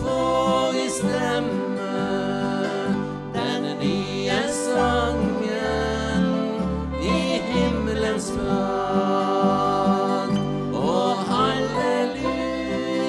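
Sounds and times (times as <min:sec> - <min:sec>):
accordion: 0:00.0 - 0:13.0
low bass: 0:00.0 - 0:13.0
man and woman singing: 0:00.0 - 0:13.0
piano: 0:00.0 - 0:13.0
strummed acoustic guitar: 0:00.0 - 0:13.0.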